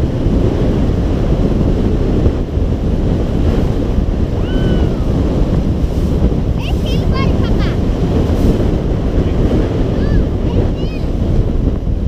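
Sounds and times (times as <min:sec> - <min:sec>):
rushing water from motorboat: 0:00.0 - 0:12.0
wind buffeting microphone: 0:00.0 - 0:12.0.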